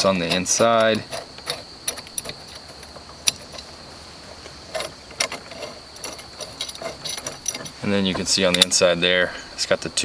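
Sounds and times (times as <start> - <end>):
metal parts clicking and clinking: 0.0 - 9.0.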